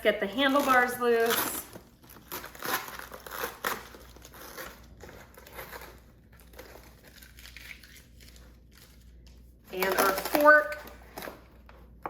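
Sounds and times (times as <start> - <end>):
tape peeling and tearing: 0.5 - 10.6.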